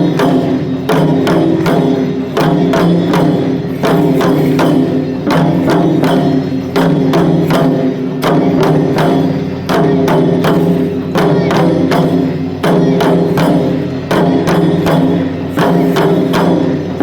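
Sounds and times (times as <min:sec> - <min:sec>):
taiko drum strikes: 0:00.0 - 0:17.0.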